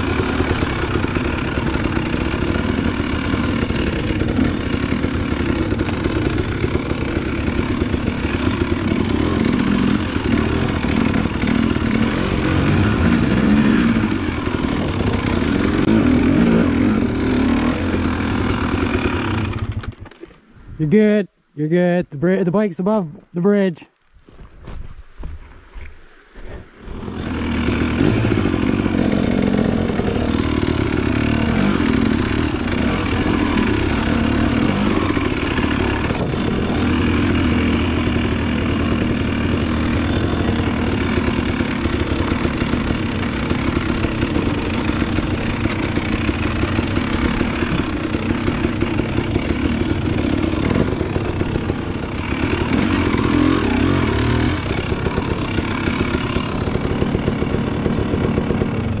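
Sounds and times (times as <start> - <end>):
dirt bike engine revving: 0.0 - 20.0, 26.6 - 59.0.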